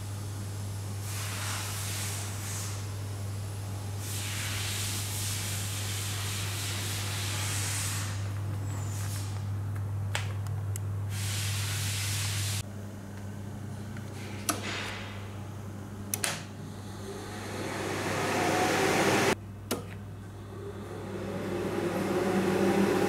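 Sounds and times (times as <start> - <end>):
electrical hum and fan noise: 0.0 - 23.0.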